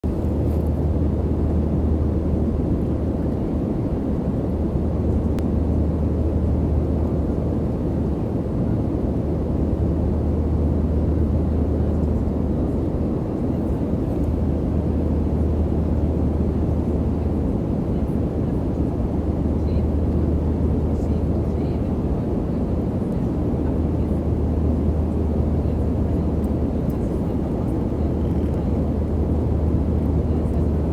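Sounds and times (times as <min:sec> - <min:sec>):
airplane engines droning: 0:00.0 - 0:30.9.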